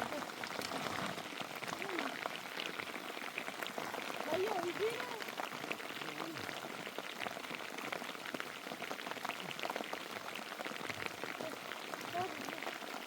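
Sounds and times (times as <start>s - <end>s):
heavy rain patter: 0.0s - 13.0s.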